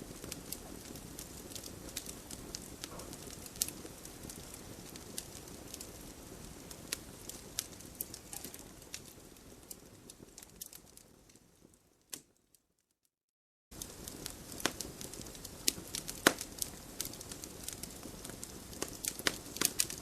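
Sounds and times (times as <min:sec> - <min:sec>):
campfire crackling and popping: 0:00.0 - 0:12.5, 0:13.7 - 0:20.0.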